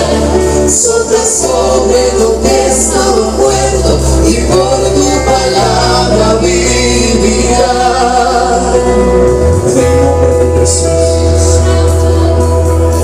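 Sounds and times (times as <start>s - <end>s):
instrumental worship music: 0.0s - 13.0s
singing voices: 0.0s - 13.0s
steady bass line: 0.0s - 13.0s.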